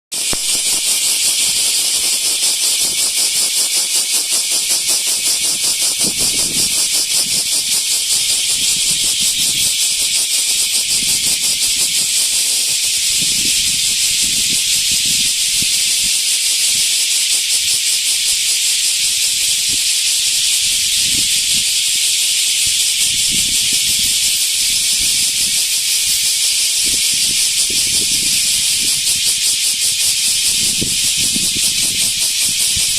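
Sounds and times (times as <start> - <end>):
cicada pulsing buzz: 0.1 - 32.9.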